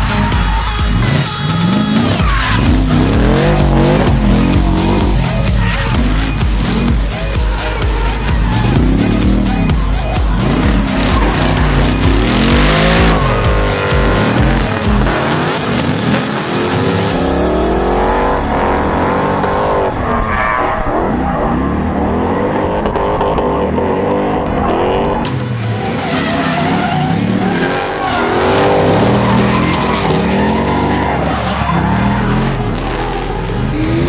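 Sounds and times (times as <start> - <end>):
car engines revving: 0.0 - 34.0
tyres skidding and squealing: 0.0 - 34.0.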